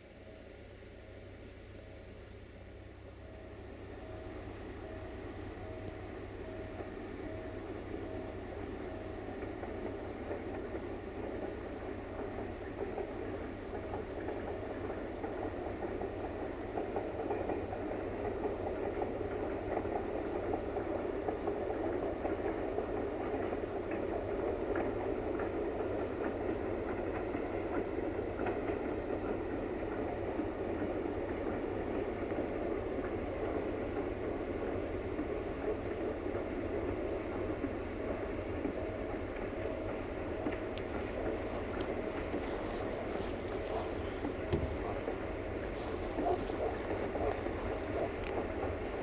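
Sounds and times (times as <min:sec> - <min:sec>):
diesel locomotive engine running: 0:00.0 - 0:49.0
wheels clicking over rail joints: 0:08.6 - 0:49.0.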